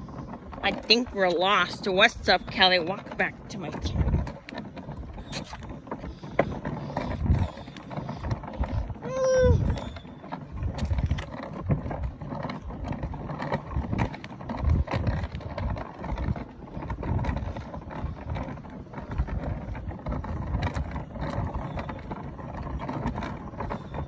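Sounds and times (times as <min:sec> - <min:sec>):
toy car wheels rolling on concrete: 0:00.0 - 0:24.0.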